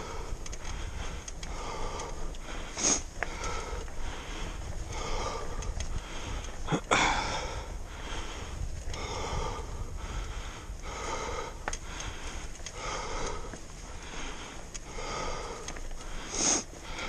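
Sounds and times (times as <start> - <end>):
person breathing hard and wheezing: 0.0 - 17.0.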